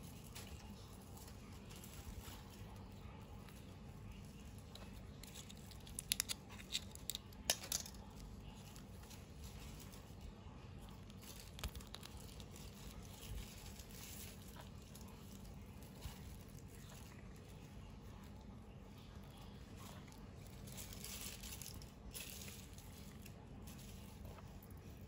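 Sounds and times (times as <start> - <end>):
plastic packaging crinkling and tearing: 0.0 - 25.0.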